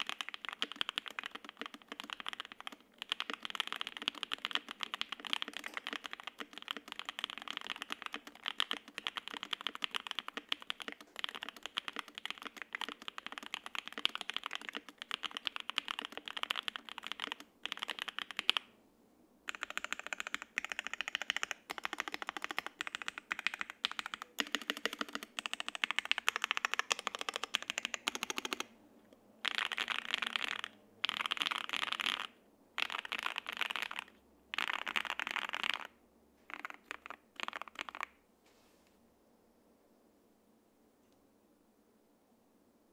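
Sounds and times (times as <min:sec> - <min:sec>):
mechanical keyboard typing: 0:00.0 - 0:18.7, 0:19.5 - 0:28.7, 0:29.4 - 0:35.9, 0:36.5 - 0:38.2.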